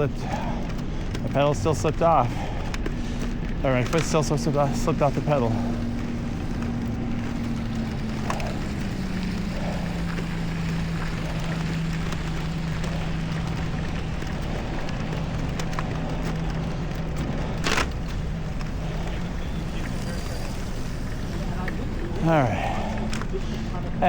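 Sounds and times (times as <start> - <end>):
city traffic: 0.0 - 24.0
low engine-like hum: 0.0 - 24.0.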